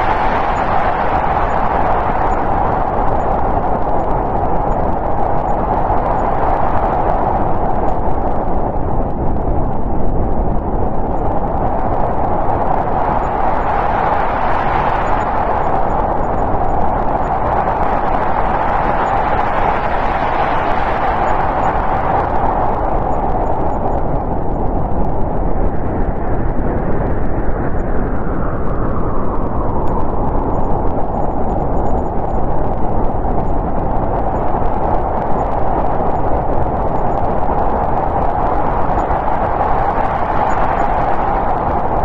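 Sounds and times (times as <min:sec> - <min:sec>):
howling snowstorm wind: 0:00.0 - 0:42.0.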